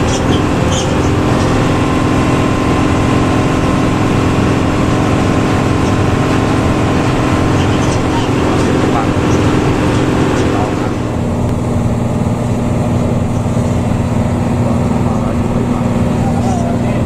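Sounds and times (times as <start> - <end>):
bus engine growling: 0.0 - 17.0.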